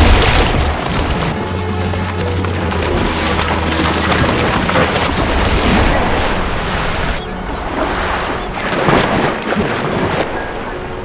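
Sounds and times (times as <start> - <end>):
sea water splashing and surging: 0.0 - 11.0.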